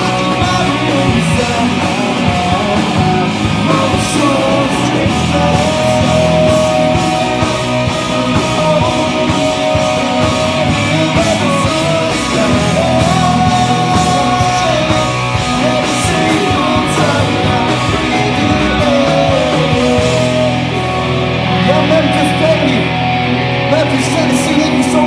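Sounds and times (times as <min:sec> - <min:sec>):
person singing: 0:00.0 - 0:23.0
distorted electric guitars: 0:00.0 - 0:25.0
drums: 0:00.0 - 0:25.0.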